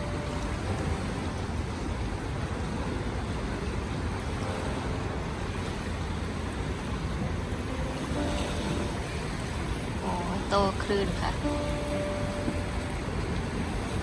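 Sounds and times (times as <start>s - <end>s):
waves breaking on shore: 0.0s - 14.0s
wind buffeting microphone: 0.0s - 14.0s.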